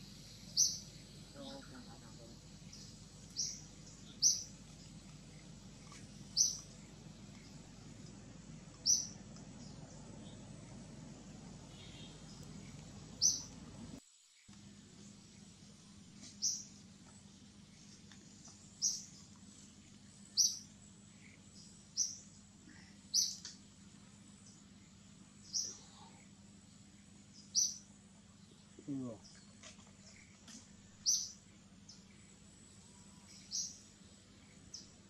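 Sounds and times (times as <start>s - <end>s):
faint background ambience: 0.0s - 35.0s.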